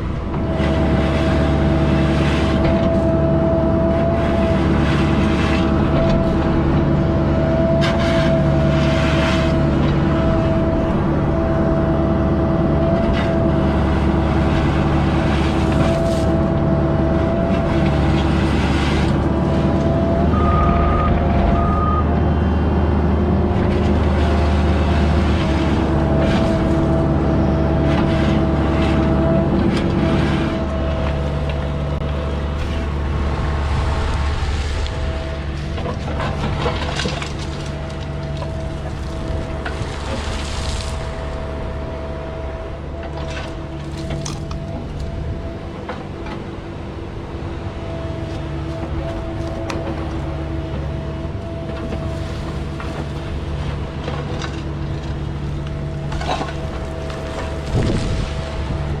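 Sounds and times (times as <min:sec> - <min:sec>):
diesel machine engine running: 0:00.0 - 0:59.0
hydraulic whine: 0:00.0 - 0:59.0.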